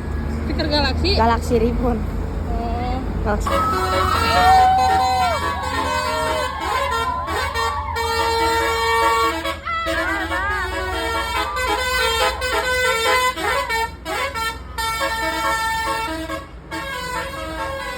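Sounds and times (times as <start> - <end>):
bus horn playing melody: 3.4 - 17.9.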